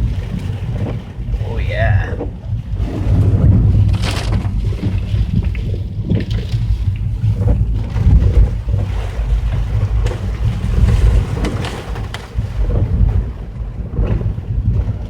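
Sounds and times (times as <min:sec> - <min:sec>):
vehicle rumbling on rough road: 0:00.0 - 0:15.0.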